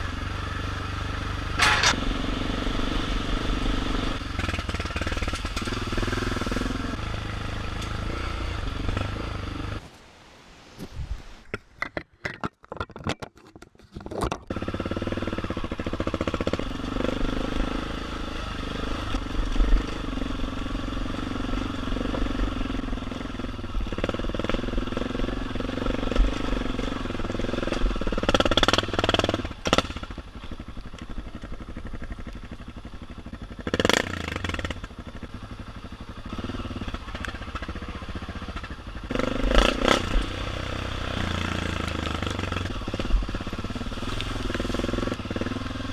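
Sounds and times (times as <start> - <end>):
motorcycle engine running: 0.0 - 9.8, 14.5 - 45.9.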